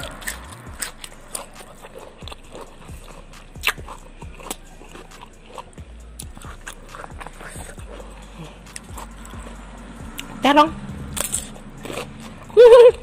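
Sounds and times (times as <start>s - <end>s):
wet mouth clicks and smacks: 0.0s - 9.4s, 11.2s - 13.0s
person chewing food: 0.0s - 13.0s.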